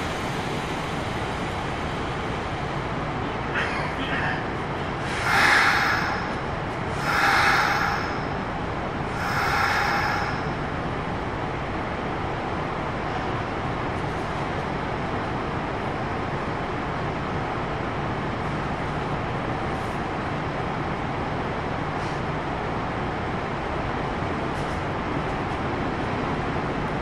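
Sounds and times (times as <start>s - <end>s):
electric train equipment hum: 0.0s - 27.0s.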